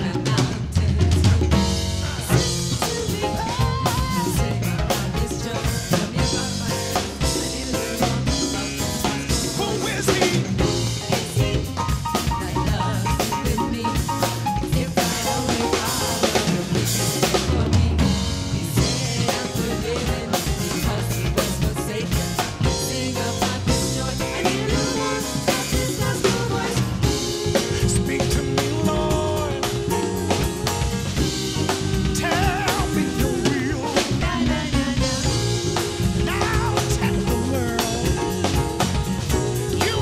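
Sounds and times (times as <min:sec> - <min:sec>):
live gospel band music: 0:00.0 - 0:40.0.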